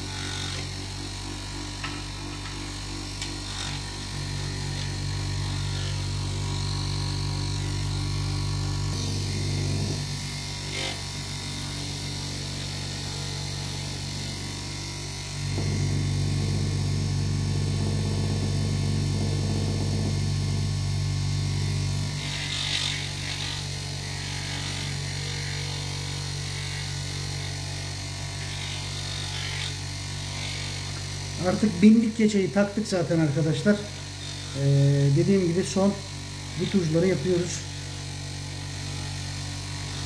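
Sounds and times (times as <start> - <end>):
bench grinder motor humming: 0.0 - 40.0.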